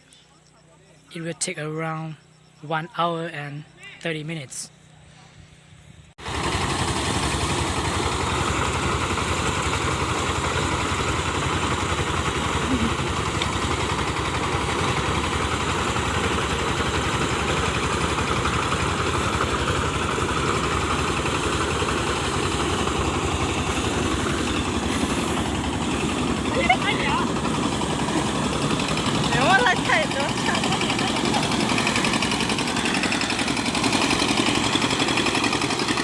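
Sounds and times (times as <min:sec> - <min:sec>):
threshing machine running: 0:06.2 - 0:36.0.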